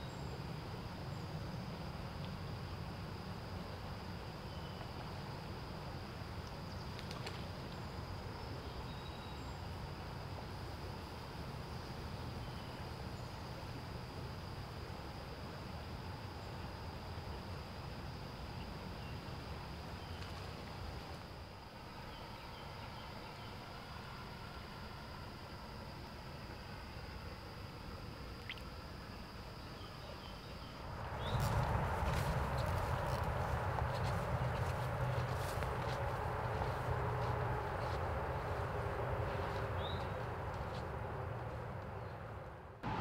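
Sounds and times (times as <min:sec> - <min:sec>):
high-pitched insect drone: 0:00.0 - 0:42.1.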